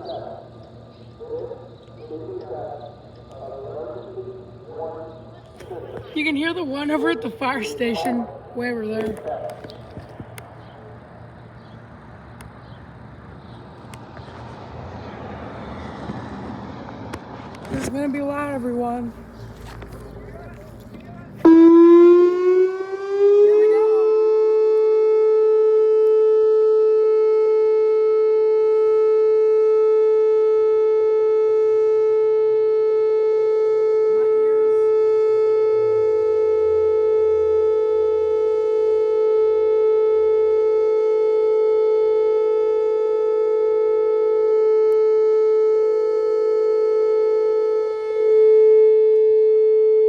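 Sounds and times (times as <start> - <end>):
electronic warning siren: 0.0 - 11.6, 17.6 - 50.0.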